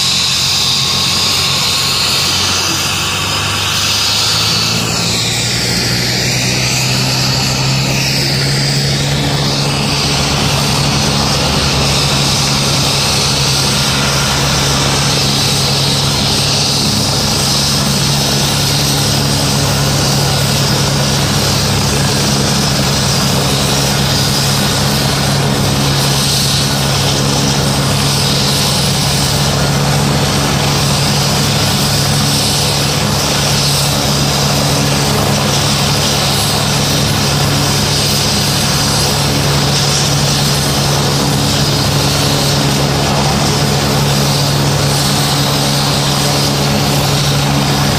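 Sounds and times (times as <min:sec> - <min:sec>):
helicopter rotor turning: 0:00.0 - 0:47.9
helicopter turbine whining: 0:00.0 - 0:47.9.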